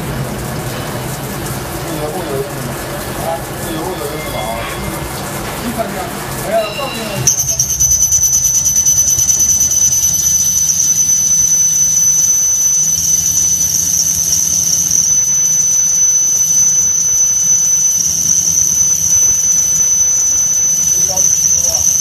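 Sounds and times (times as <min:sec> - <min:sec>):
machine humming: 0:00.0 - 0:22.0
lathe cutting tool squealing: 0:01.8 - 0:22.0.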